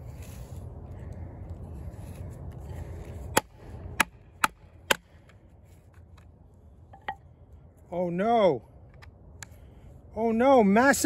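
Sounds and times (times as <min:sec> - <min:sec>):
low rumbling noise: 0:00.0 - 0:10.4.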